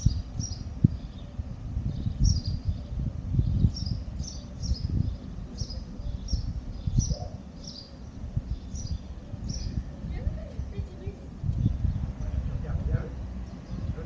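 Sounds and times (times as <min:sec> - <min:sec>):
small bird chirping: 0:00.0 - 0:12.5
wind rumble on microphone: 0:00.0 - 0:14.0.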